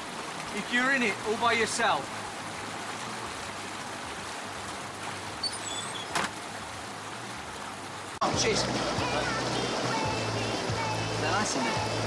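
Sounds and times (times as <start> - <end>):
hot tub bubble jets churning: 0.0 - 12.0.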